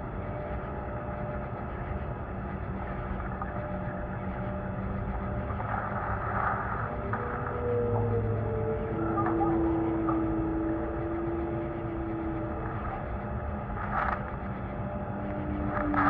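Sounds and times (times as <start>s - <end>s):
low rumble and hiss: 0.0s - 16.0s.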